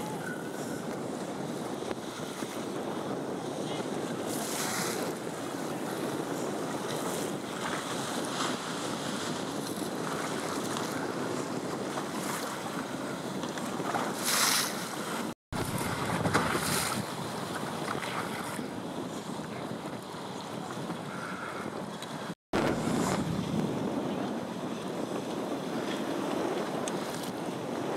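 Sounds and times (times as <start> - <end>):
choppy water splashing: 0.0 - 27.9
wind rushing over microphone: 0.0 - 27.9.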